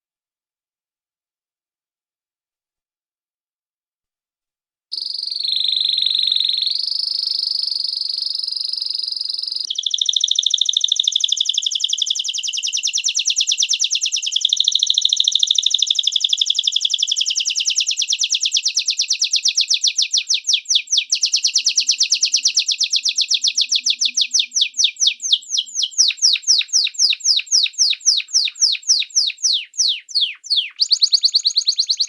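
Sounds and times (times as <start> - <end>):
songbird trilling: 5.0 - 32.0.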